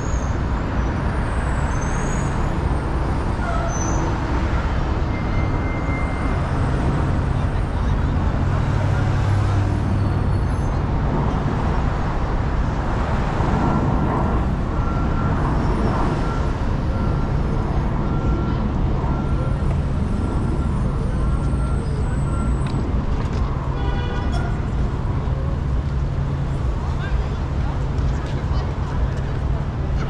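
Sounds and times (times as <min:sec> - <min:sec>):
city traffic noise: 0:00.0 - 0:30.0
engine and tyre rumble: 0:00.0 - 0:30.0.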